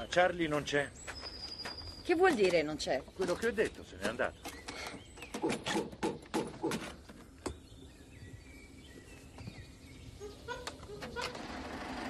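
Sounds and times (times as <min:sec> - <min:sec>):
faint bird chirps: 0:00.9 - 0:11.5.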